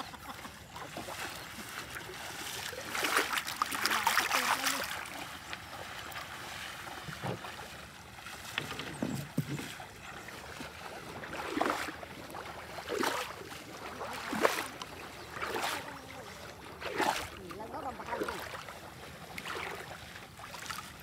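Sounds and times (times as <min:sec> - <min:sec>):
person wading through water: 0:00.0 - 0:21.0.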